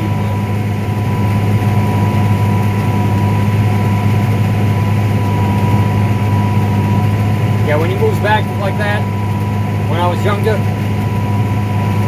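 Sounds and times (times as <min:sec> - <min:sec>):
low engine drone: 0:00.0 - 0:12.0
thin steady whine: 0:00.0 - 0:12.0.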